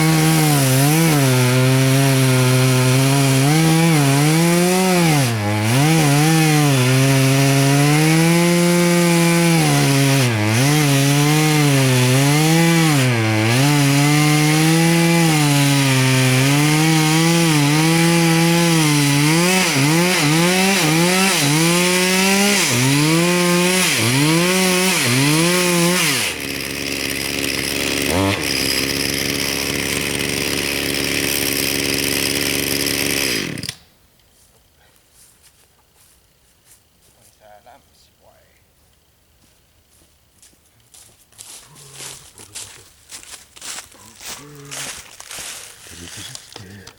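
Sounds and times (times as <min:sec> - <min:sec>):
chainsaw cutting wood: 0:00.0 - 0:33.9, 0:41.9 - 0:46.9.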